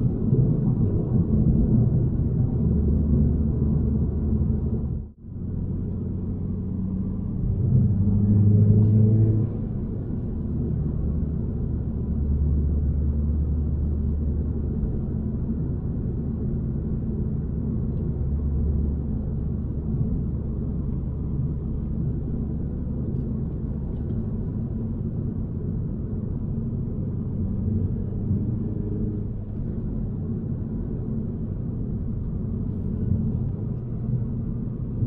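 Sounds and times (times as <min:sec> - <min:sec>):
car engine drone: 0:00.0 - 0:35.0
road noise: 0:00.0 - 0:35.0.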